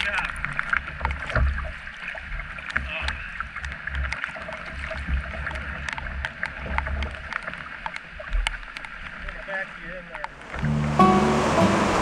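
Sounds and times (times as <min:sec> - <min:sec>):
raindrops ticking on camera: 0:00.0 - 0:12.0
water washing along canoe hull: 0:00.0 - 0:12.0.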